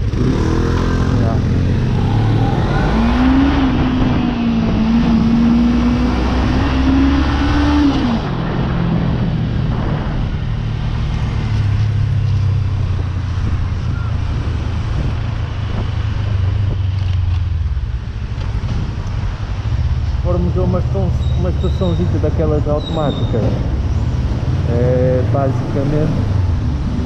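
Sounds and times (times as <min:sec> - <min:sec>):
road noise: 0:00.0 - 0:27.0
wind noise: 0:01.4 - 0:27.0.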